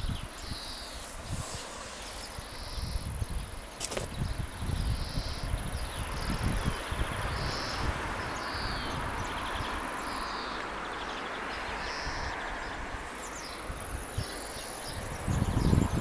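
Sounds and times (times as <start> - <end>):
wind rushing: 0.0 - 9.9, 11.7 - 16.0
insects trilling: 0.0 - 16.0
wind buffeting microphone: 0.0 - 16.0.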